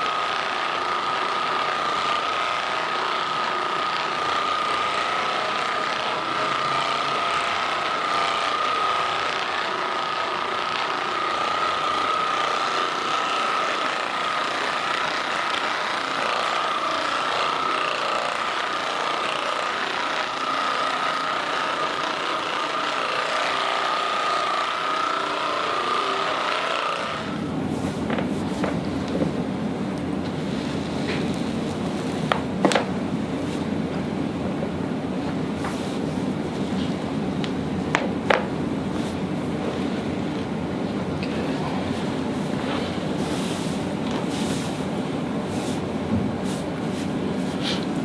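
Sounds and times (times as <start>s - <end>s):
massage gun buzzing: 0.0s - 48.0s.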